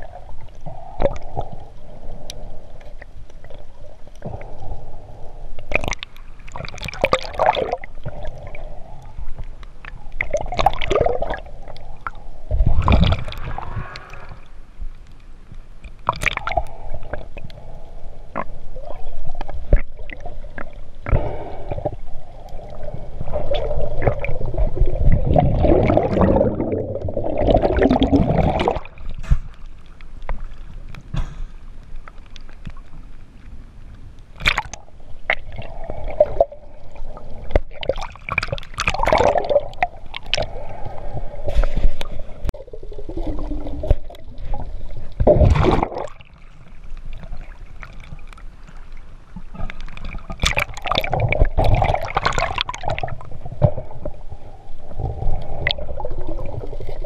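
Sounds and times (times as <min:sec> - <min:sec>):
muffled water sloshing and gurgling: 0:00.0 - 0:57.0.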